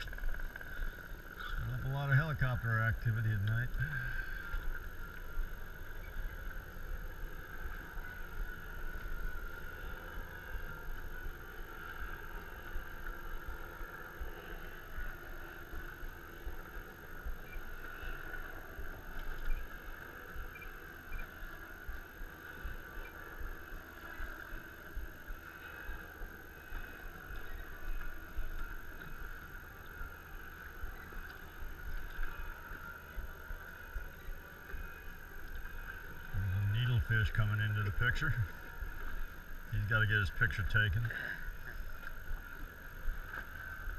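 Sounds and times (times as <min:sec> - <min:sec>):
boat low rumble: 0:00.0 - 0:43.9.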